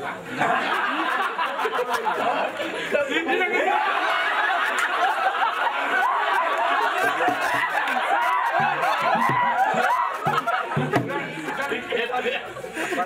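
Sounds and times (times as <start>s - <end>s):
people chatting: 0.0s - 13.0s
people laughing: 0.0s - 13.0s.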